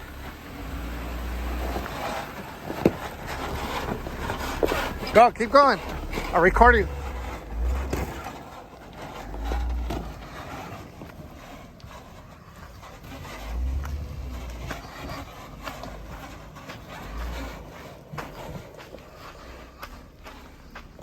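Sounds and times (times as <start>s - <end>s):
light crunches and clicks: 0.0s - 21.0s.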